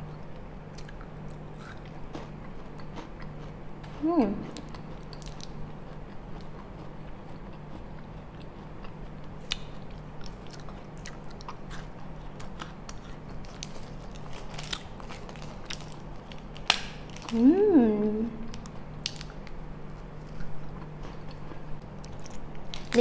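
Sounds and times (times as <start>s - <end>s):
low steady hum: 0.0s - 23.0s
person chewing wafer: 0.1s - 17.4s, 18.4s - 23.0s.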